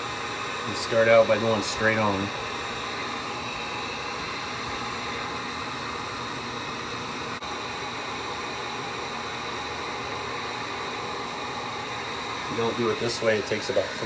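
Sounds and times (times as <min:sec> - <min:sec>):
hot-air blower running: 0:00.0 - 0:14.0.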